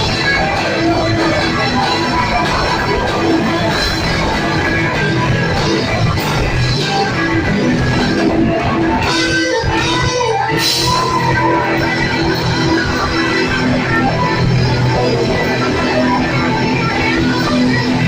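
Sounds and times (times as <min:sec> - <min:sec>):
blues-rock band playing: 0:00.0 - 0:18.0
electric guitar: 0:00.0 - 0:18.0.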